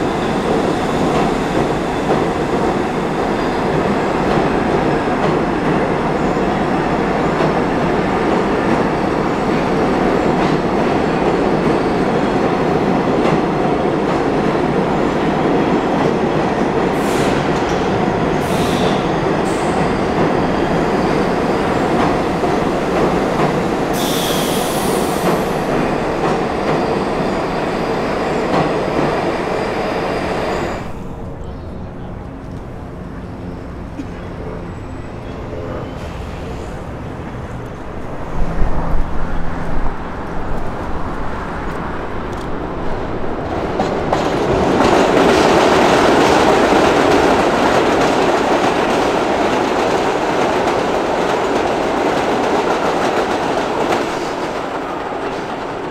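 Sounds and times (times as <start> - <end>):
subway train rolling: 0.0 - 55.9
train passing on open track: 0.0 - 55.9.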